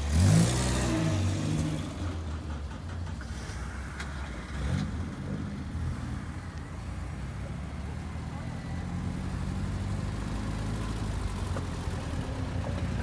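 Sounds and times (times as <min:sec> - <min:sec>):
classic car engines running slowly: 0:00.0 - 0:13.0.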